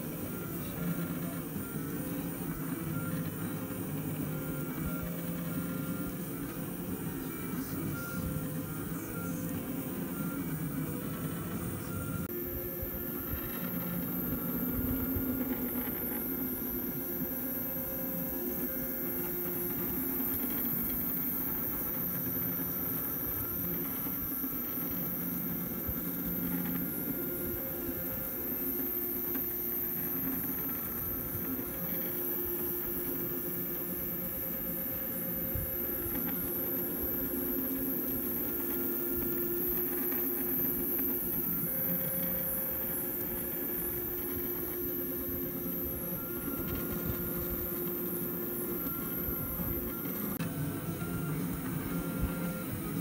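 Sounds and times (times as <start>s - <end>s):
printer stepper motors whining: 0.0s - 53.0s.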